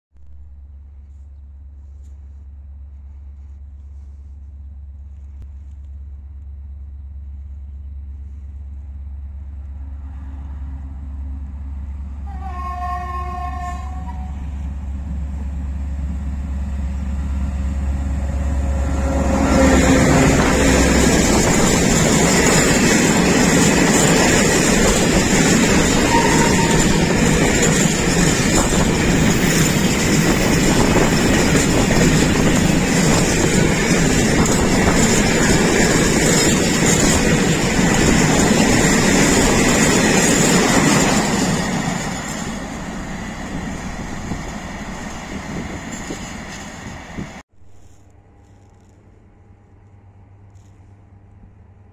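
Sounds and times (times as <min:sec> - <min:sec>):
train wheels rumbling on rails: 0:00.2 - 0:49.1
diesel train engine drone: 0:00.2 - 0:51.9.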